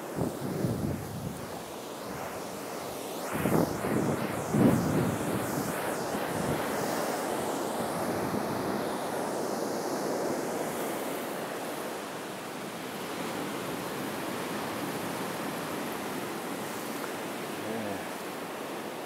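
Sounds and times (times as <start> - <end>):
ocean surf washing on shore: 0.0 - 19.0.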